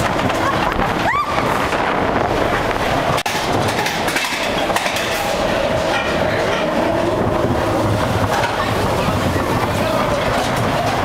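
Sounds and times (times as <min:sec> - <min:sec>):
wheels rolling on steel rails: 0:00.0 - 0:11.0.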